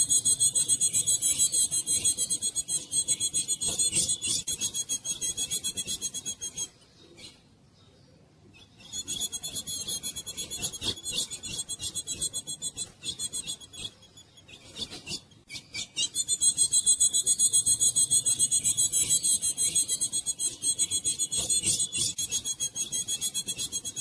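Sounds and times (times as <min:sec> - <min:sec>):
bird rattling call: 0:00.0 - 0:06.7, 0:08.8 - 0:24.0.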